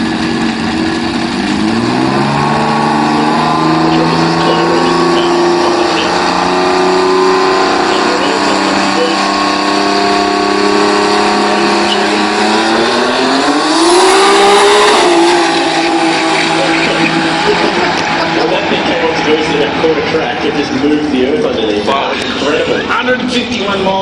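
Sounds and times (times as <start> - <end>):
loud race car engine running: 0.0 - 24.0.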